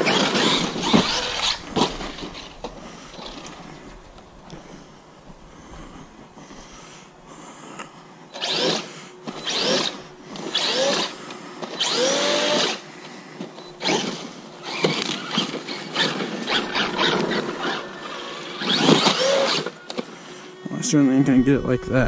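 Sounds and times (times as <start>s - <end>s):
electric motor whining: 0.0s - 7.0s, 8.3s - 22.0s.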